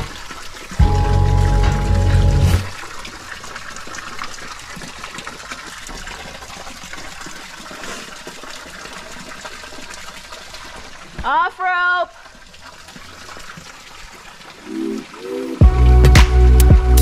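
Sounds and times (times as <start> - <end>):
stream water rushing and splashing: 0.0 - 16.6.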